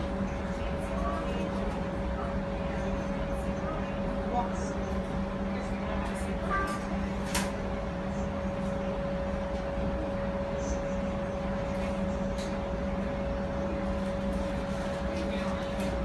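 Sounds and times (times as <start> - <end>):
electrical and ventilation hum: 0.0 - 16.0.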